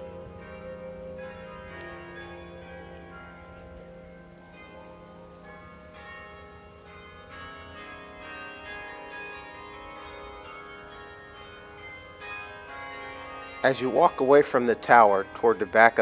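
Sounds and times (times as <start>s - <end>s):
carillon bells playing melody: 0.0s - 16.0s.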